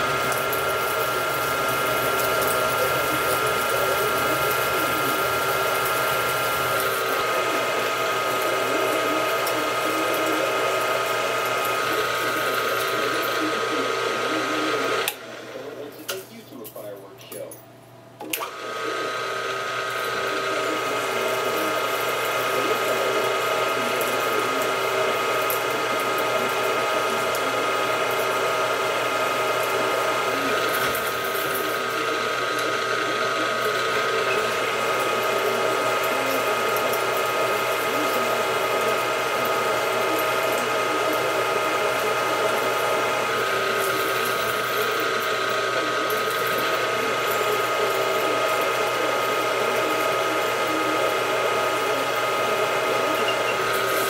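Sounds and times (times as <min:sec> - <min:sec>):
end mill cutting aluminum: 0:00.0 - 0:15.3, 0:18.3 - 0:54.0
milling machine whine: 0:00.0 - 0:17.4, 0:18.1 - 0:54.0.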